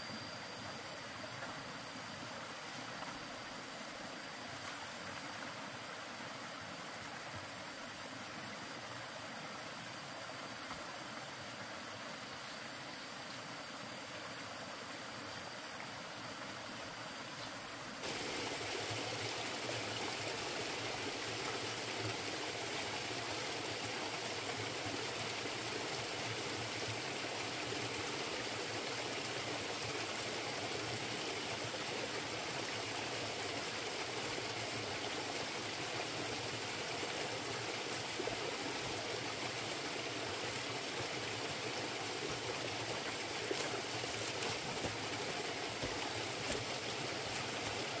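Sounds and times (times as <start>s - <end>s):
running water rushing: 1.2s - 48.0s.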